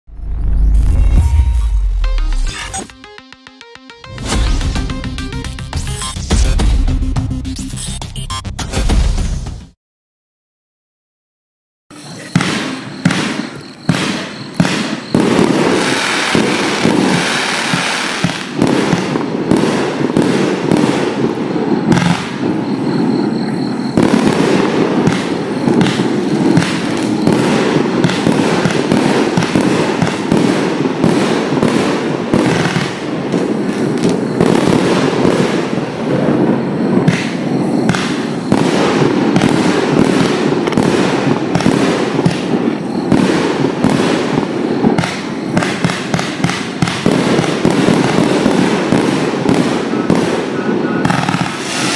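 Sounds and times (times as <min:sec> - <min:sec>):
fireworks launching and bursting: 0:00.1 - 0:07.8, 0:11.9 - 0:51.9.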